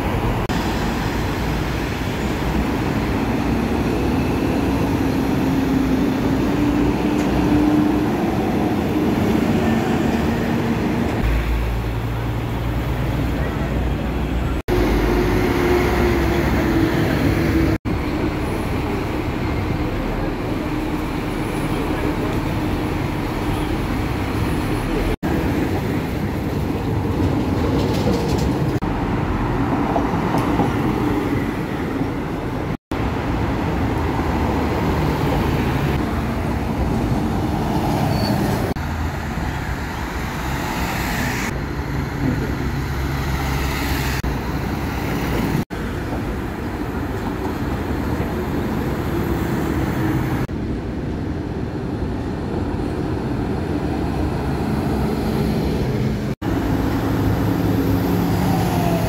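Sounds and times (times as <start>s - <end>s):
tyre noise of passing traffic: 0.0s - 59.0s.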